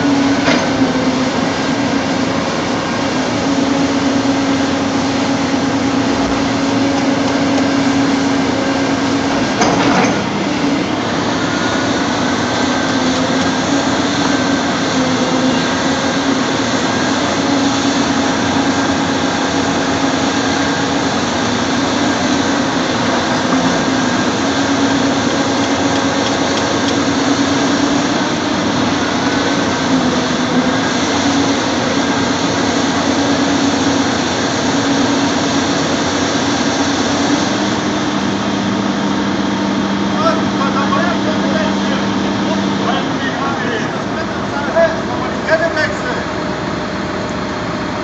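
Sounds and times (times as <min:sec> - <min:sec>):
excavator diesel engine droning: 0:00.0 - 0:48.0.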